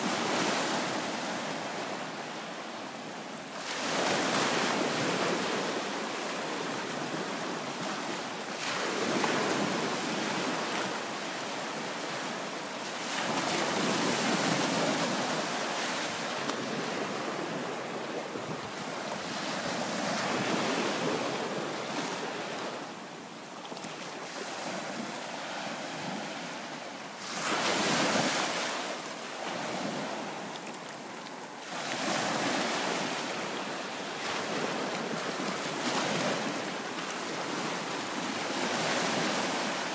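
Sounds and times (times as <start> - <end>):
waves washing onto sandy beach: 0.0 - 39.9.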